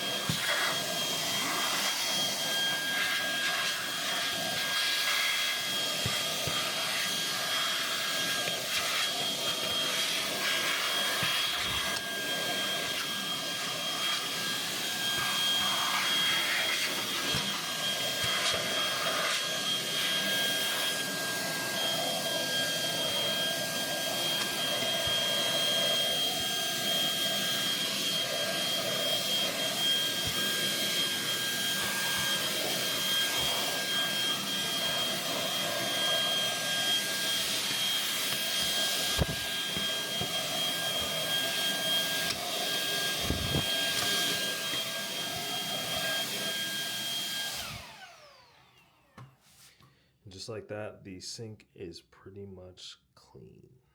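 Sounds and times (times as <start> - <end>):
handheld vacuum running: 0.0 - 49.4.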